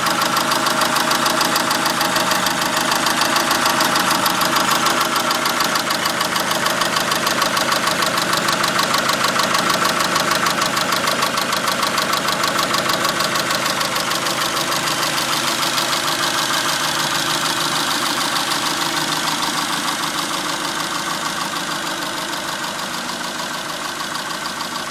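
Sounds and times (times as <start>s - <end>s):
car engine idling with ticking: 0.0s - 24.9s.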